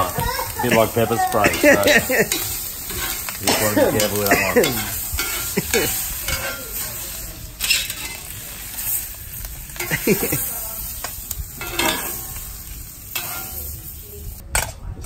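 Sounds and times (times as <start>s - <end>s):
squid sizzling on hotplate: 0.0s - 14.4s
metal tongs clacking and scraping: 0.1s - 13.8s.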